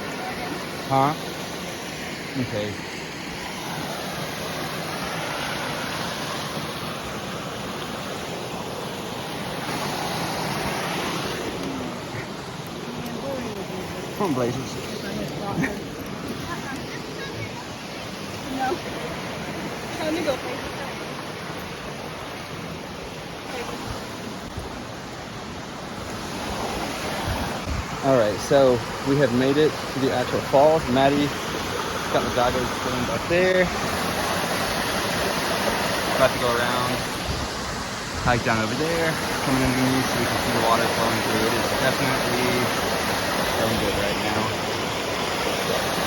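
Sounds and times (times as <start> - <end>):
creek rushing over cascades: 0.0 - 46.0.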